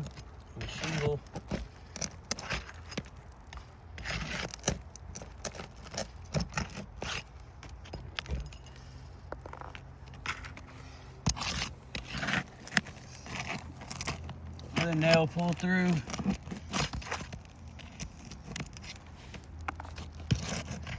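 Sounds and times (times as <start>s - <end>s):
hand tool scraping shingles: 0.0s - 20.9s.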